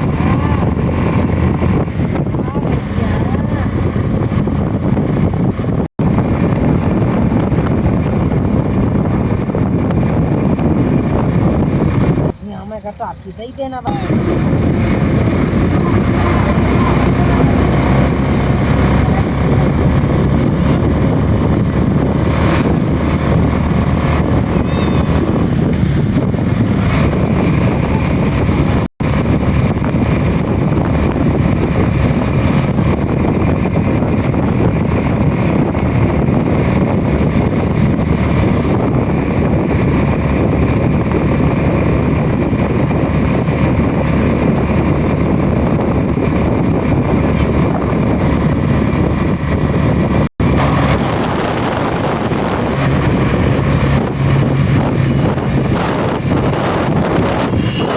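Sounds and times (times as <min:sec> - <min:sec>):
wind rumbling on microphone: 0:00.0 - 0:57.9.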